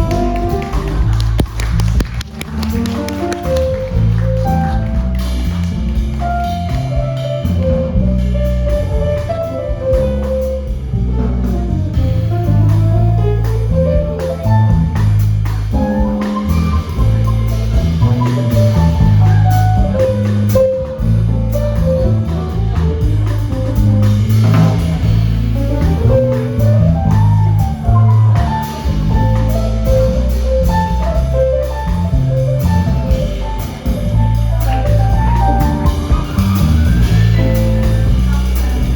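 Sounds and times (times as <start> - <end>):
jazz band playing: 0.0 - 38.9
steady drums: 0.0 - 38.9
walking bass: 0.0 - 38.9.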